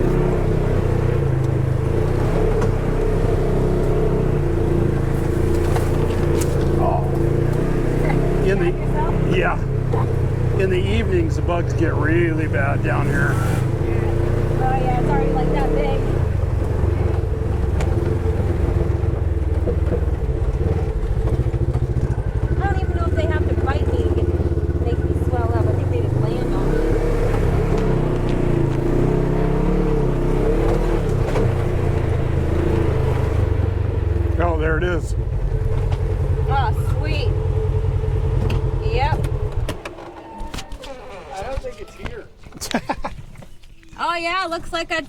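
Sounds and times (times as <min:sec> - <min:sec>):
utility vehicle engine droning: 0:00.0 - 0:45.0.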